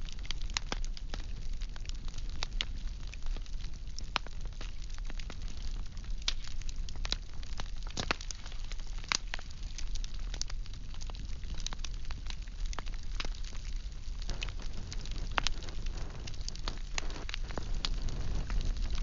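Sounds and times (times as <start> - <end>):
fire low rumble and hiss: 0.0 - 19.0
firewood crackling and popping: 0.0 - 19.0.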